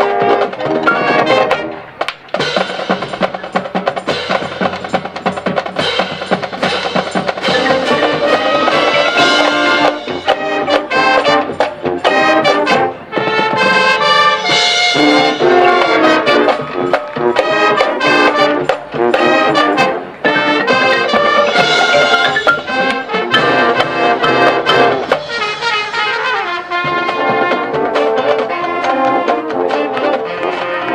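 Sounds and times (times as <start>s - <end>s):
marching band brass: 0.0s - 30.9s
marching drums: 0.0s - 30.9s.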